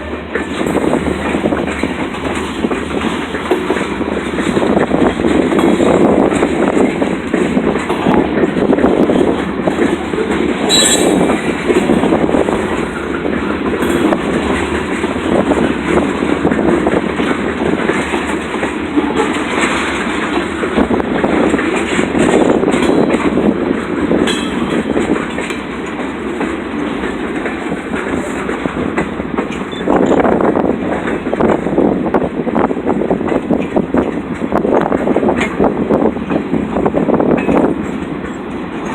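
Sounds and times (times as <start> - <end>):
freight train rumbling past: 0.0 - 38.9
wheels clacking over rail joints: 0.0 - 38.9.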